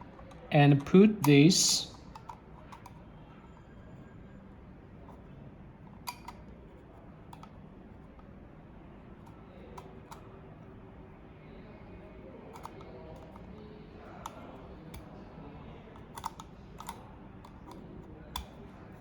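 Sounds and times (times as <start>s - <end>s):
faint steady background noise: 0.0s - 19.0s.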